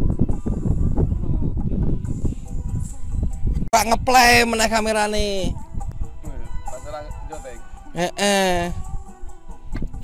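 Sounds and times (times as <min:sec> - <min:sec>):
wind buffeting microphone: 0:00.0 - 0:08.0, 0:08.6 - 0:10.0
faint background music: 0:00.0 - 0:10.0.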